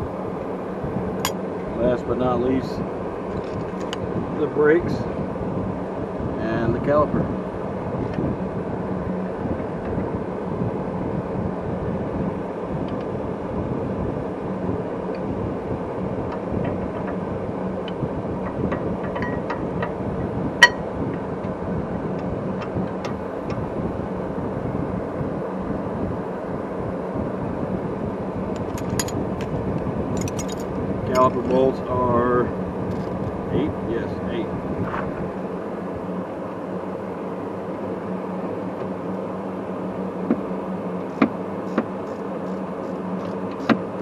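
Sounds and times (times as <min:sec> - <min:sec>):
steady background noise: 0:00.0 - 0:44.0.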